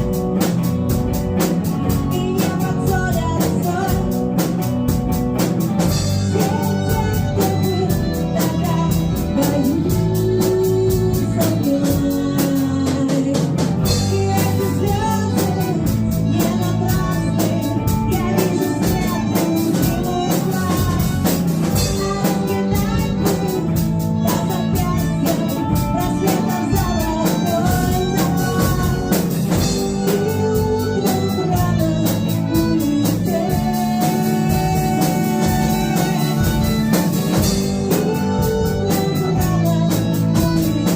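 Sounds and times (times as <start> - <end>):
drum kit beat: 0.0 - 40.9
guitar: 0.0 - 40.9.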